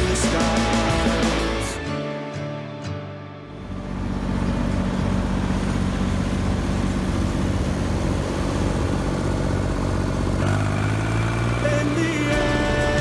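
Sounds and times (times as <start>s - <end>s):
tractor engines running: 0.0s - 1.8s, 3.5s - 13.0s.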